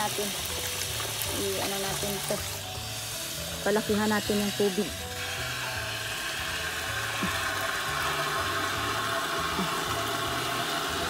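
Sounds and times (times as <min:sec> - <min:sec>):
water rushing into a paddy: 0:00.0 - 0:02.7, 0:03.6 - 0:11.0.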